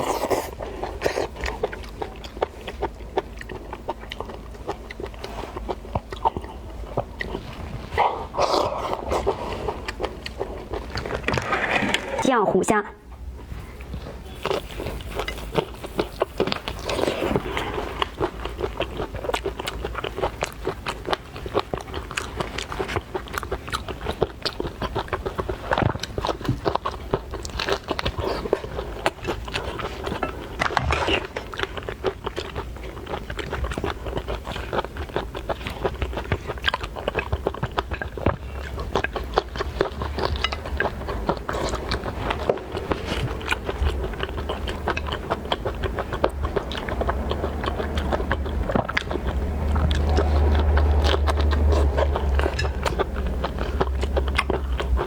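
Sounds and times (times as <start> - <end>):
person chewing wetly: 0.0 - 11.4, 13.2 - 55.0.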